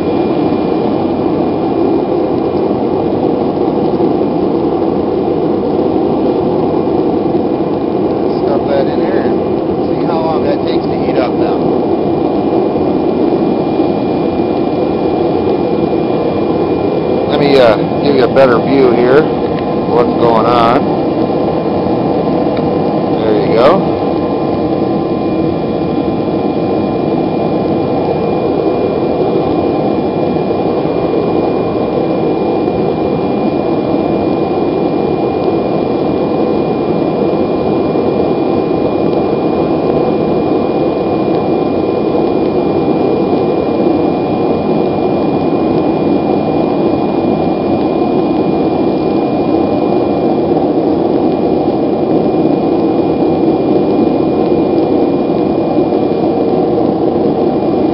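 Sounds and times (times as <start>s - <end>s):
gas burner rushing: 0.0s - 57.9s.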